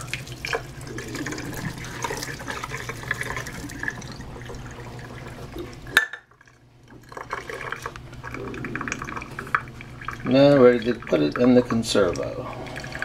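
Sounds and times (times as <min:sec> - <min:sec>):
water pouring and splashing: 0:00.0 - 0:13.0
water running into sink: 0:00.0 - 0:13.0.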